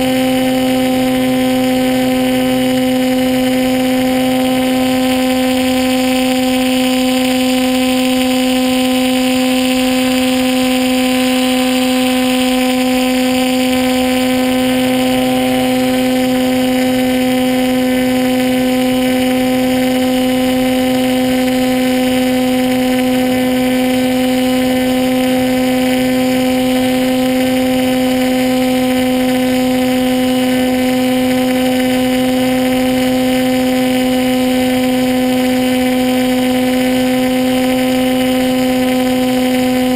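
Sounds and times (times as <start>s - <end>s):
model plane motor humming: 0.0s - 39.9s.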